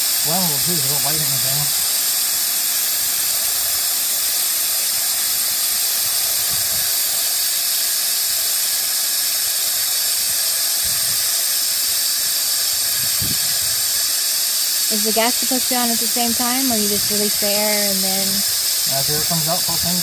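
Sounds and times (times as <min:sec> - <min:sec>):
hiss of gas flowing: 0:00.0 - 0:20.0.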